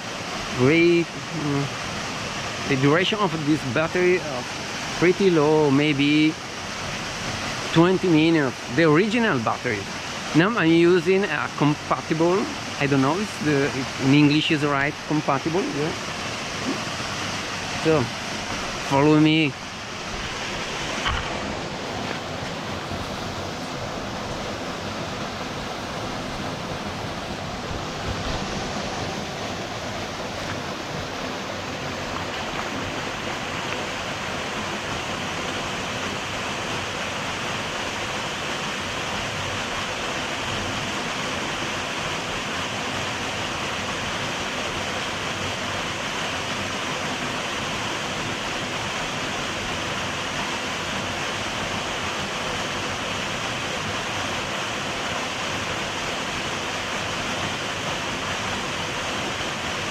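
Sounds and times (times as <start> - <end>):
small waterfall rushing: 0.0 - 59.9.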